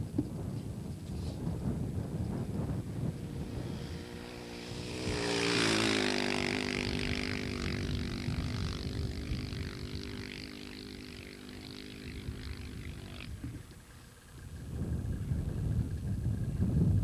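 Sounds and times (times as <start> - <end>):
dirt bike engine passing by: 1.4 - 15.2.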